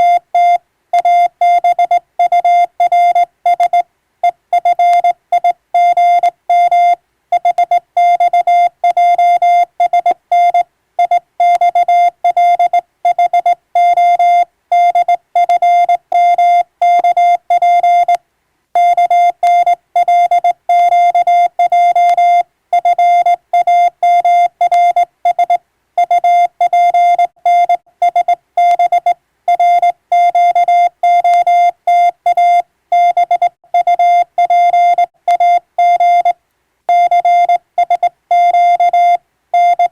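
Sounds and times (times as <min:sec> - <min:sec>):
morse code tone: 0:00.0 - 0:18.2, 0:18.8 - 0:39.9.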